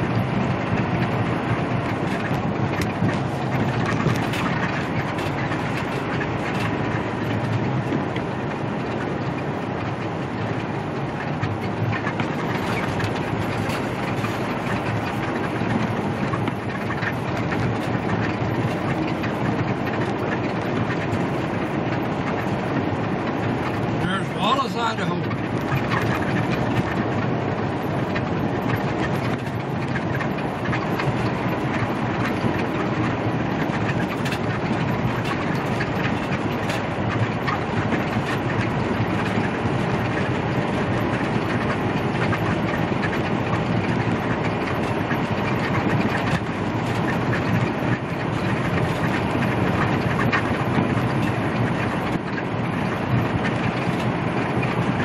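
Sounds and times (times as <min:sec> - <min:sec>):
truck engine droning: 0:00.0 - 0:55.0
tyres on wet pavement: 0:00.0 - 0:55.0.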